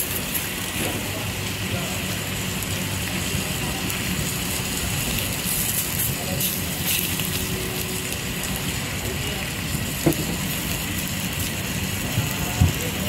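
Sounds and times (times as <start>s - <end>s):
fish sizzling on a griddle: 0.0s - 13.0s
faint chatter: 0.1s - 13.0s.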